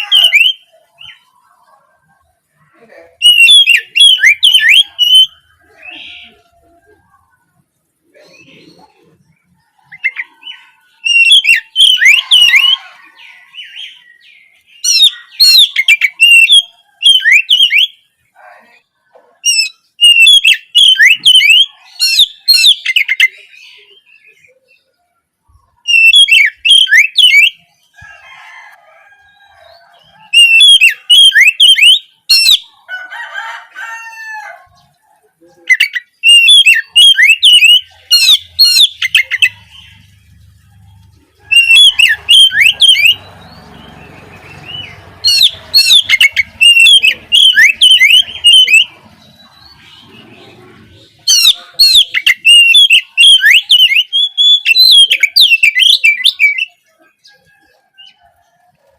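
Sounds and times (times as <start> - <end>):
magpie-robin singing: 0.0 - 6.7, 8.2 - 18.1, 19.4 - 27.9, 29.7 - 32.8, 35.6 - 58.2.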